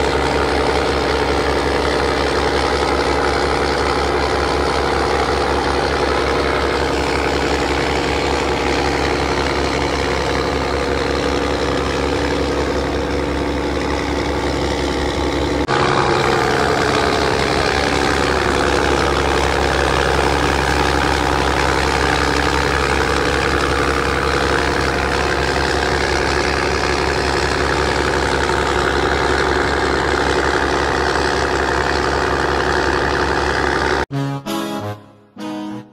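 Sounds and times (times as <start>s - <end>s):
rushing wake water: 0.0s - 34.0s
boat engine running: 0.0s - 34.1s.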